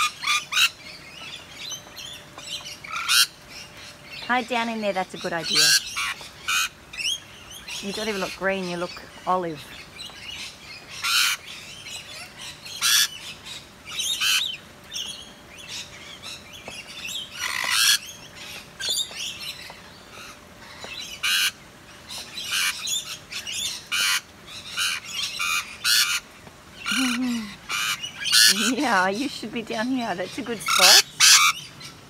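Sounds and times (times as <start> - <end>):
lorikeets screeching: 0.0 - 32.0.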